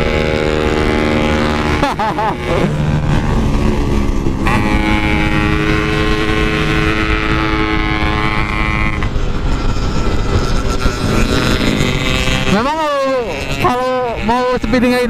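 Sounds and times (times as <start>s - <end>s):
two-stroke motorcycle engine: 0.0s - 15.0s
wind rumble on microphone: 0.0s - 15.0s.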